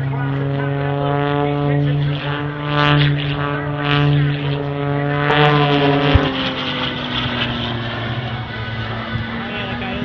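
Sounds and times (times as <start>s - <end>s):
propeller airplane engine droning: 0.0s - 10.0s.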